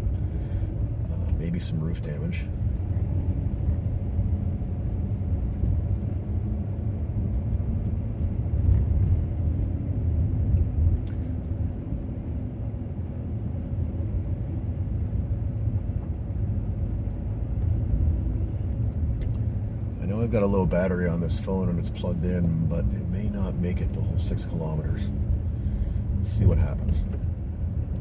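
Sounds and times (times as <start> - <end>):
van engine and tyre rumble: 0.0 - 28.0.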